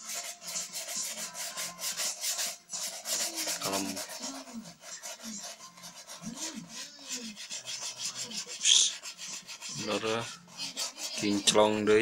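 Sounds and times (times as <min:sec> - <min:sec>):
cloth rubbing polish into shoe: 0:00.0 - 0:12.0.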